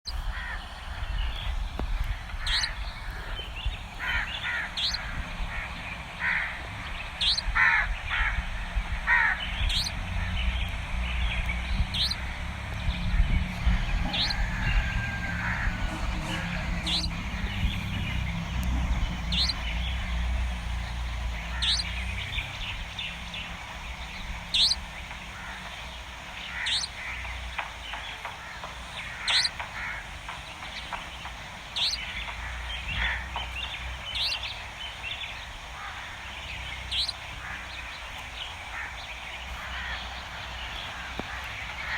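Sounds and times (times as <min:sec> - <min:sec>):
low steady rumble: 0:00.1 - 0:41.9
crows cawing: 0:00.3 - 0:01.1, 0:02.1 - 0:10.4, 0:13.1 - 0:34.3, 0:35.6 - 0:41.9
small bird chirping: 0:02.4 - 0:05.2, 0:07.0 - 0:07.6, 0:09.5 - 0:41.9.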